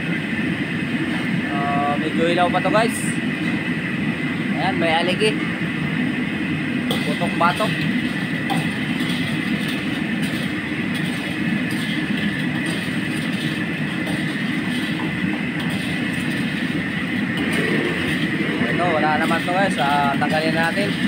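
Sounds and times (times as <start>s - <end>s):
high whine: 0.0s - 21.0s
oil boiling: 0.0s - 21.0s
wok burner roaring: 0.0s - 21.0s.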